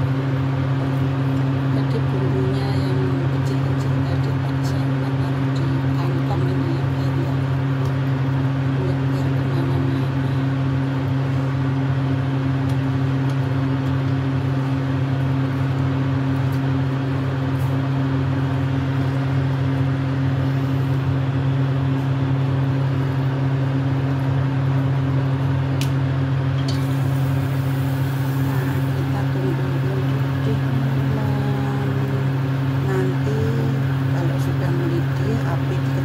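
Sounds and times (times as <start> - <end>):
kitchen appliance fan hum: 0.0 - 36.0.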